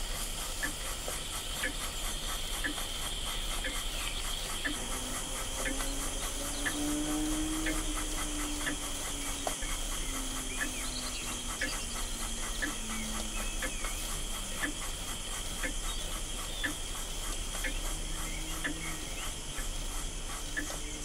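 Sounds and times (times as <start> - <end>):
boiler hissing: 0.0 - 21.0
gurgling steam exhaust beats: 0.0 - 21.0
low wavering hum: 3.0 - 21.0.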